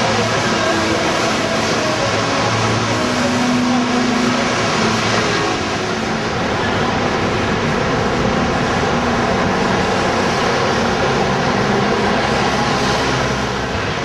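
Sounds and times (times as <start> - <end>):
rain and traffic roar: 0.0 - 14.0.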